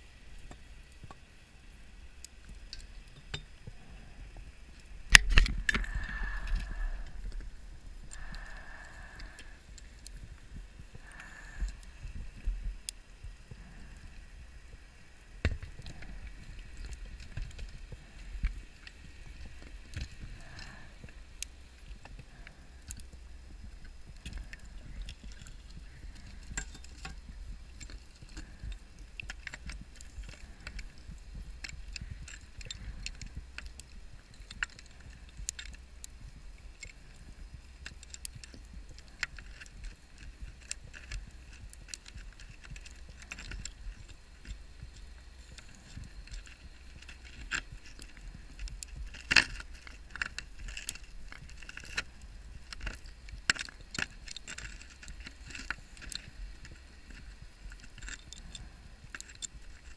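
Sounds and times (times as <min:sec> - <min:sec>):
underwater clicks and crackles: 0:00.0 - 0:59.9.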